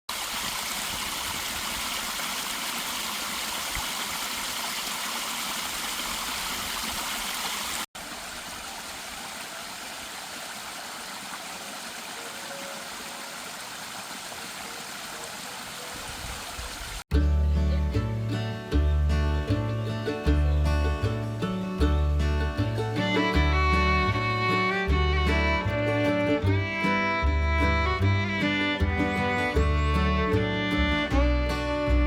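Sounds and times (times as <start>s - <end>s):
stream water flowing: 0.1s - 17.2s, 18.0s - 32.0s.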